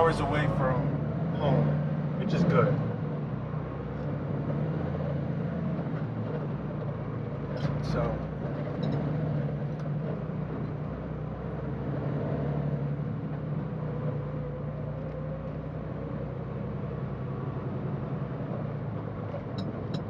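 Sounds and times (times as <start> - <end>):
diesel truck engine humming: 0.0 - 20.0.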